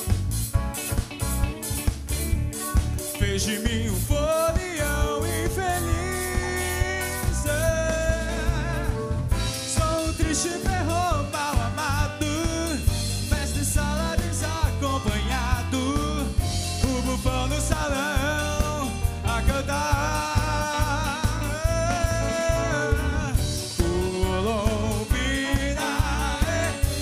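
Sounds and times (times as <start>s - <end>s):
live pop-rock band playing: 0.0s - 27.0s
wavering lead melody: 0.8s - 27.0s.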